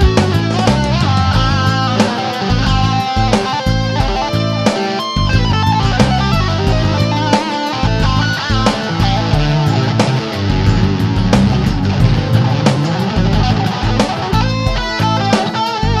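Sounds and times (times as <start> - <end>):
bass line: 0.0 - 16.0
electric guitar lead: 0.0 - 16.0
steady drum beat: 0.0 - 16.0.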